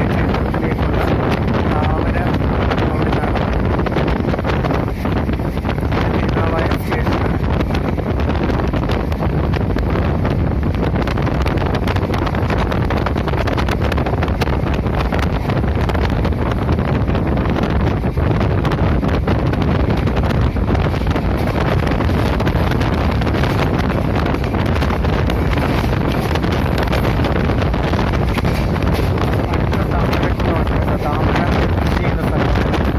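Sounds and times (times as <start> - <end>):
train running rumble and rattle: 0.0 - 32.9
wind buffeting microphone: 0.0 - 32.9.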